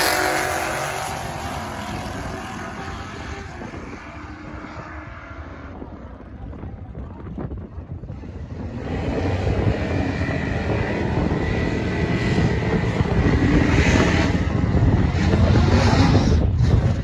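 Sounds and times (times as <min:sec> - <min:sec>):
drag racing cars at full throttle: 0:00.0 - 0:17.0.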